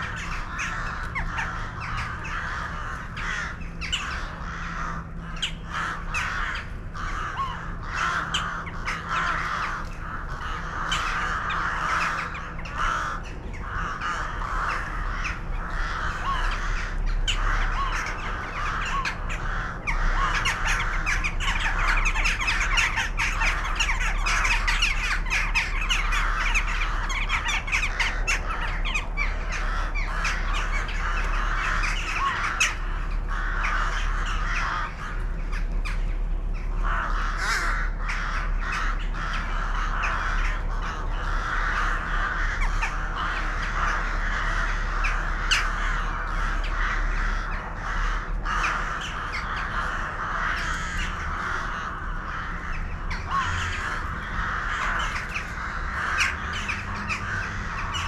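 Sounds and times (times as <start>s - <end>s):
flock of birds chattering: 0.0s - 58.0s.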